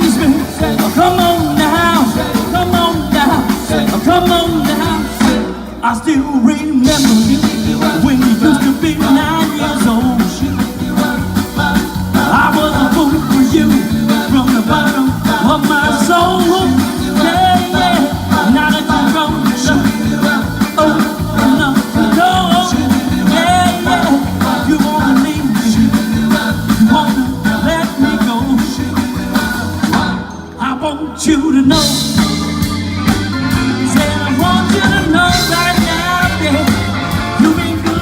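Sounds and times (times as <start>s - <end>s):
bending melodic lead line: 0.0s - 30.5s, 31.7s - 38.0s
live band playing upbeat music: 0.0s - 38.0s.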